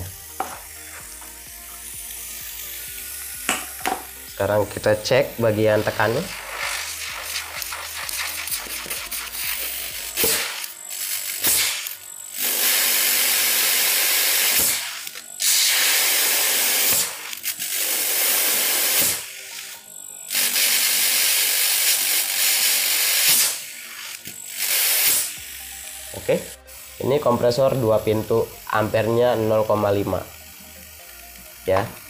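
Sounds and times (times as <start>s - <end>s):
compressor air hissing blasts: 0.0s - 32.0s.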